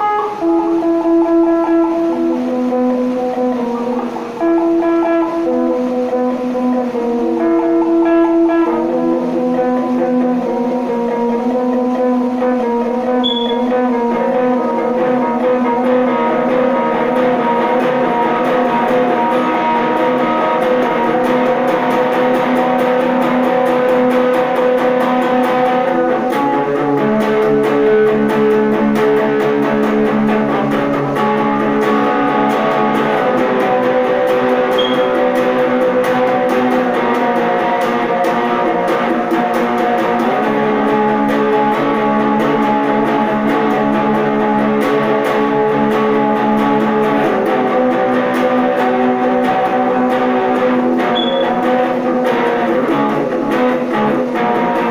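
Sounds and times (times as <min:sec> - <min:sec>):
electric guitar chords: 0:00.0 - 0:54.9.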